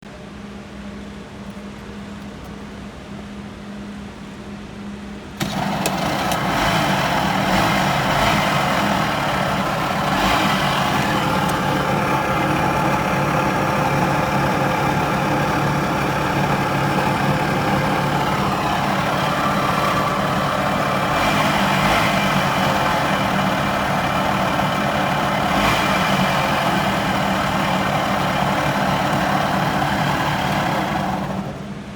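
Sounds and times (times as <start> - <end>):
scooter engine harsh mechanical noise: 5.4 - 31.9.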